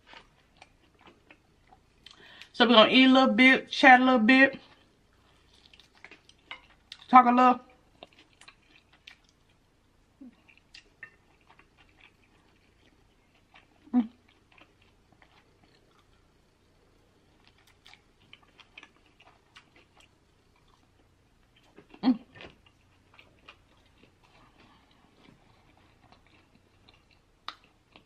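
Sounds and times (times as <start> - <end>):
crunchy chewing of fried chicken: 0.0 - 2.5, 4.7 - 7.1, 7.7 - 28.0.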